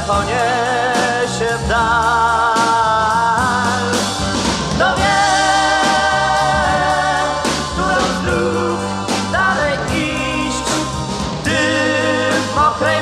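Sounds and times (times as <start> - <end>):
ballad singing with vibrato: 0.0 - 13.0
band bass and drums: 0.0 - 13.0.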